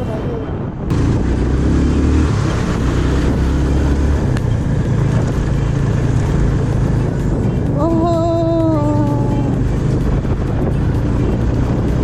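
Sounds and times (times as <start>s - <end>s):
road noise: 0.0s - 12.0s
motorcycle engine running: 0.9s - 12.0s.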